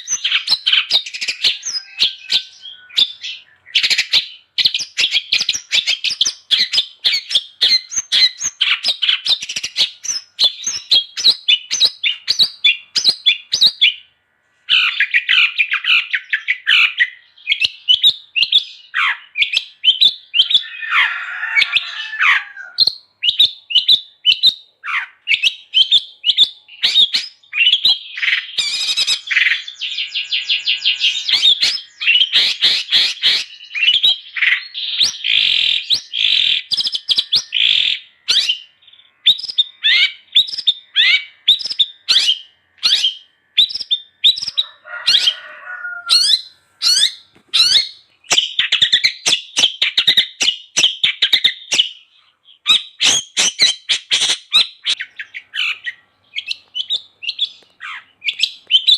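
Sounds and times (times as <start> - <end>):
bird chattering song: 0.0 - 14.1, 14.7 - 58.9.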